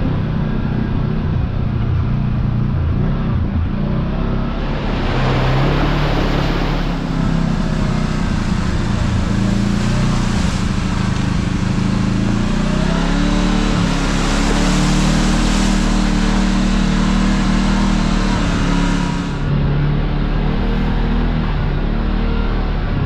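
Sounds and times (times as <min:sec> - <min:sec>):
road and wind noise: 0:00.0 - 0:23.0
vehicle engine revving: 0:00.0 - 0:23.0.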